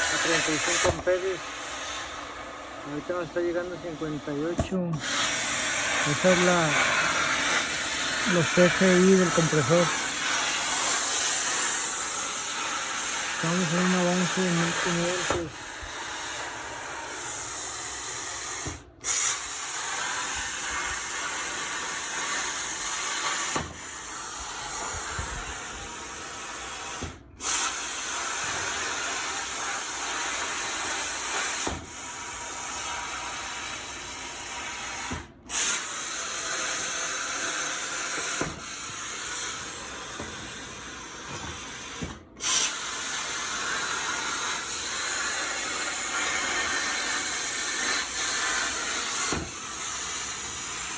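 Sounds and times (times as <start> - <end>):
plasma torch cutting steel: 0.0 - 50.9.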